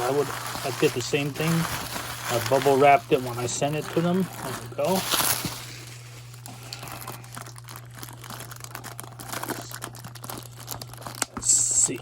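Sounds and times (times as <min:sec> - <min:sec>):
bubble wrap crinkling: 0:00.0 - 0:12.0
steady low hum: 0:00.0 - 0:12.0.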